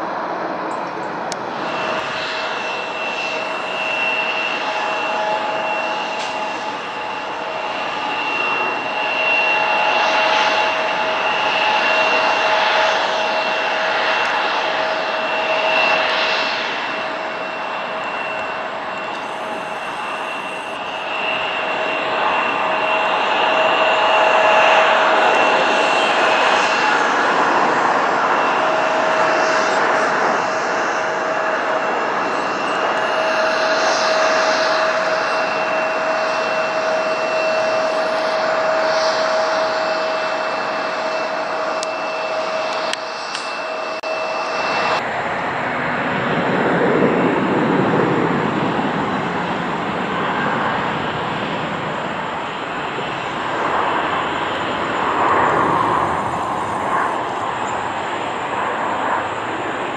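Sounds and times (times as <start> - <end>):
jet engines on approach: 0.0 - 59.9
jet engines whining: 0.0 - 59.9.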